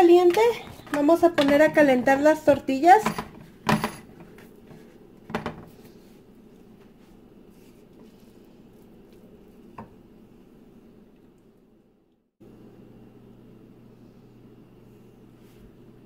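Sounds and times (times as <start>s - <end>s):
faint background hum: 0.0s - 16.0s.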